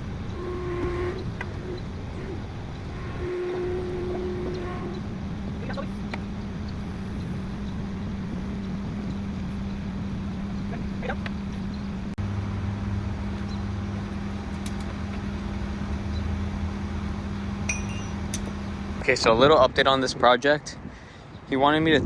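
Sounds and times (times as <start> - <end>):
deeper hum: 0.0 - 19.1
heavy equipment engine humming: 0.0 - 19.5.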